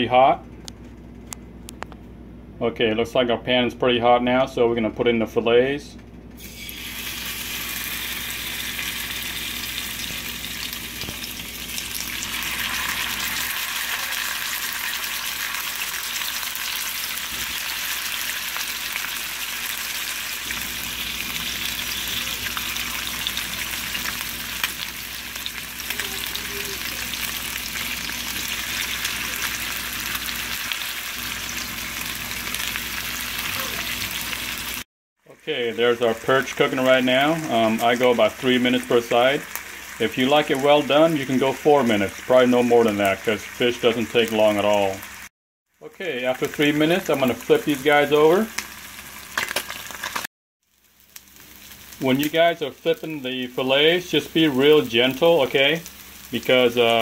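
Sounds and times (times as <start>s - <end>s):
fish sizzling in oil: 6.4s - 34.9s, 35.6s - 57.0s.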